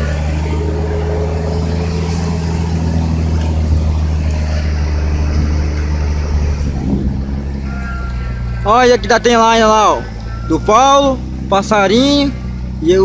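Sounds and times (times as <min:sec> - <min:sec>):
diesel truck engine humming: 0:00.0 - 0:13.0.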